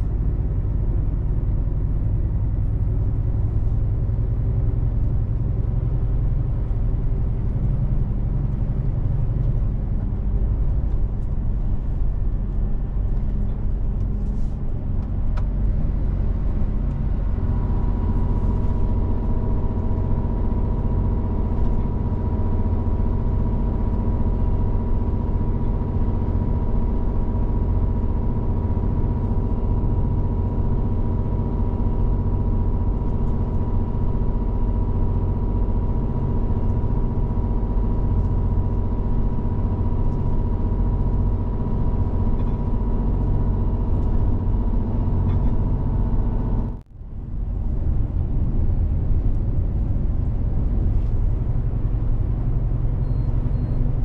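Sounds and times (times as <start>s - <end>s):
road noise: 0.0s - 54.0s
truck diesel engine rumble: 0.0s - 54.0s.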